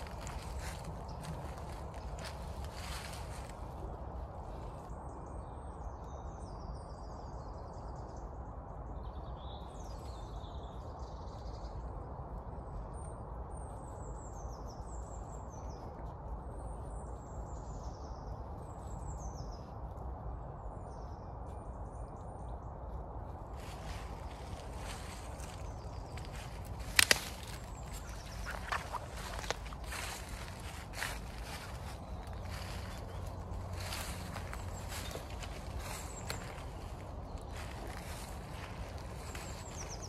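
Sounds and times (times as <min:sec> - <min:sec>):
low background rumble: 0:00.0 - 0:40.0
small birds chirping: 0:00.0 - 0:40.0.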